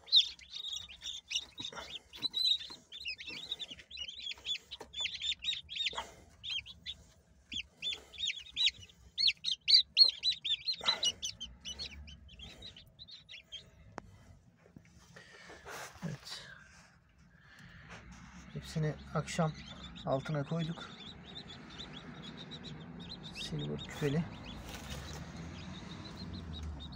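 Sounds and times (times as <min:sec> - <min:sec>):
chicks peeping: 0:00.0 - 0:16.5, 0:17.4 - 0:26.9.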